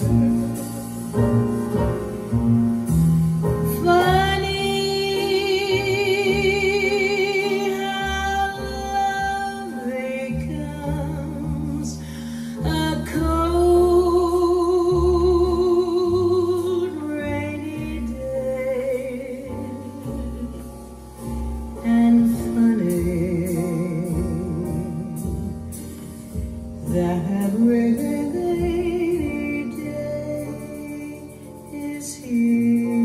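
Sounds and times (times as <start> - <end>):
piano: 0.0 - 33.0
woman singing jazz ballad: 0.0 - 33.0.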